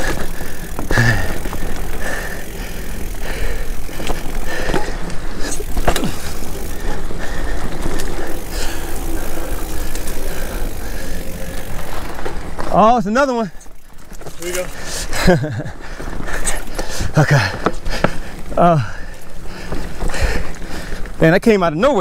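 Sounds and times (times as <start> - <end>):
bike rattling over bumps: 0.0 - 22.0
bike tyres rumbling on dirt: 0.0 - 22.0.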